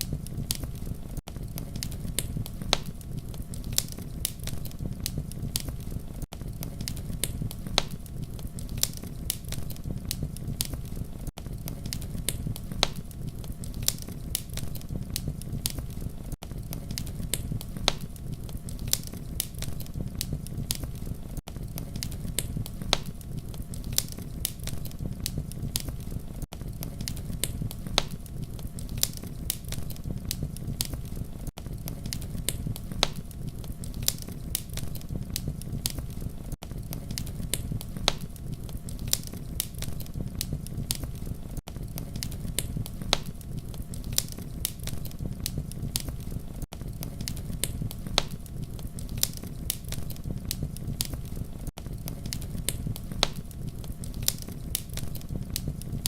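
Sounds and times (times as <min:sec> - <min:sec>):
campfire pops and snaps: 0:00.0 - 0:56.0
low rumble of flame: 0:00.0 - 0:56.0.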